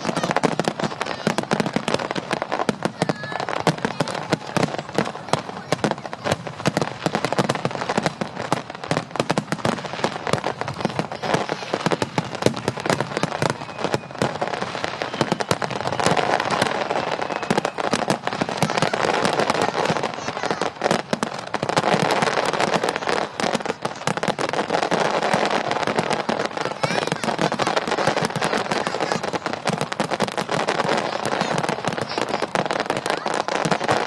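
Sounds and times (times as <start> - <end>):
fireworks pops and bangs: 0.0 - 34.0.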